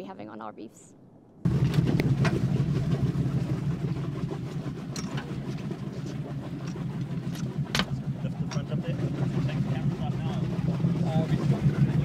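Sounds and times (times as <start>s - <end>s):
boat engine running: 1.4s - 12.0s.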